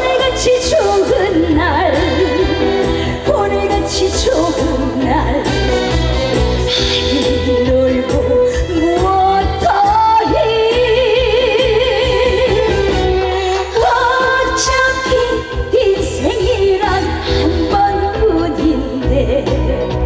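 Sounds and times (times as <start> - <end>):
band with bass beat: 0.0 - 20.0
woman singing with vibrato: 0.0 - 20.0.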